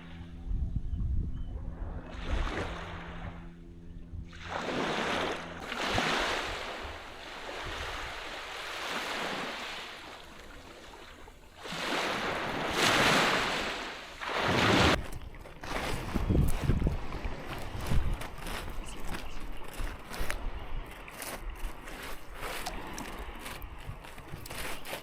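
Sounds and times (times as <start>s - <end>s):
wind rumbling on microphone: 0.0s - 25.0s
waves washing: 1.6s - 3.7s, 4.3s - 25.0s.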